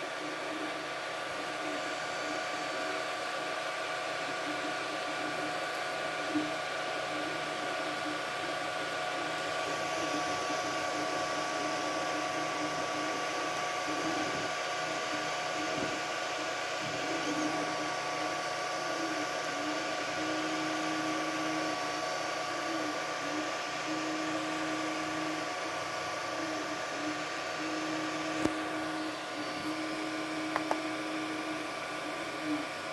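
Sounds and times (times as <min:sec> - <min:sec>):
printer fans humming: 0:00.0 - 0:32.9.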